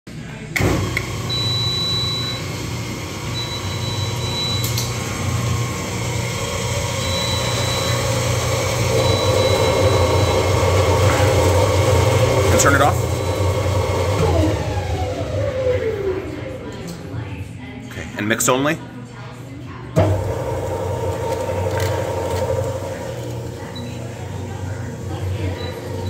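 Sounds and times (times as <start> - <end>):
mixer grinder motor humming: 0.6 - 16.6, 20.0 - 26.0.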